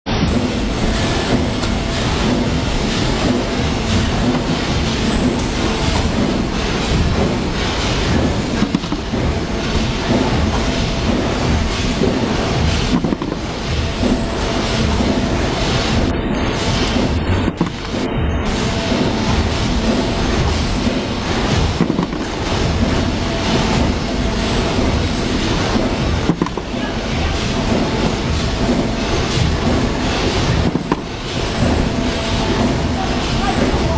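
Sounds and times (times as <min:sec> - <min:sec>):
hydraulic press rumbling: 0:00.1 - 0:33.9
steady hum: 0:00.1 - 0:33.9.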